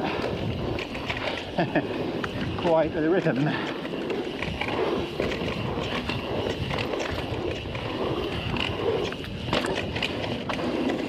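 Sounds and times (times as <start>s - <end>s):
tyres rolling on dirt: 0.0s - 11.0s.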